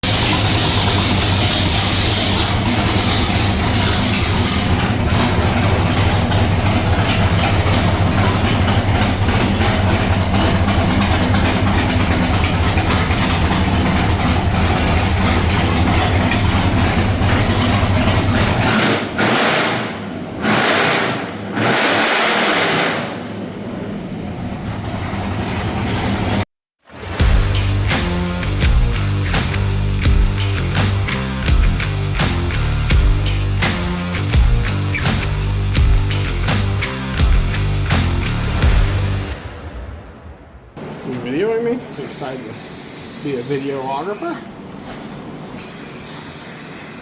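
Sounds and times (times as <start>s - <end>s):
car engine rumbling: 0.0s - 26.5s, 27.2s - 42.1s.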